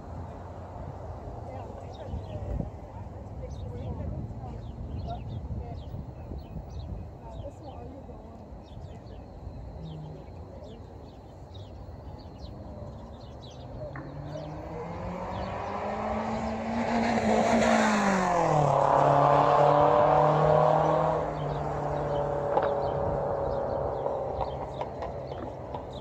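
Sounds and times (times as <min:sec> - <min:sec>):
motor vehicle passing: 0:00.0 - 0:26.0
small birds chirping: 0:00.2 - 0:18.5, 0:19.6 - 0:26.0.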